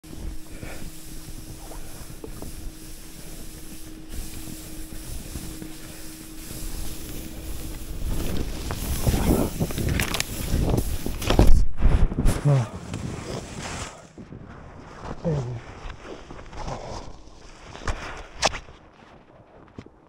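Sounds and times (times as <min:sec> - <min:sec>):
skis sliding through powder snow: 0:00.0 - 0:19.6
thuds and crunches in snow: 0:00.1 - 0:19.8.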